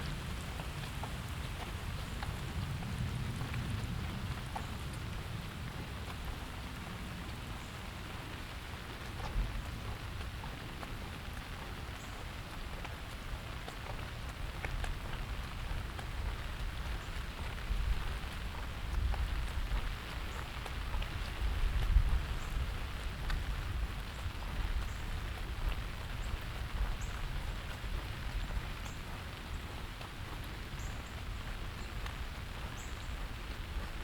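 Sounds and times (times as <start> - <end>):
raindrops ticking: 0.0 - 34.0
steady rain falling: 0.0 - 34.0.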